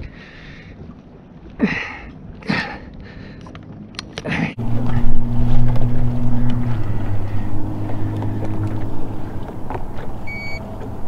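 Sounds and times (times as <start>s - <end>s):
boat motor hum: 0.0s - 11.0s.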